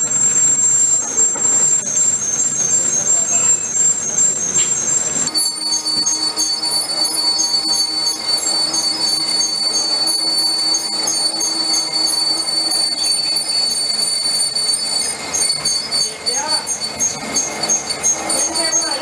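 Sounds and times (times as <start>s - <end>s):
lathe high-pitched whine: 0.0s - 19.0s
lathe running hum: 0.0s - 19.0s.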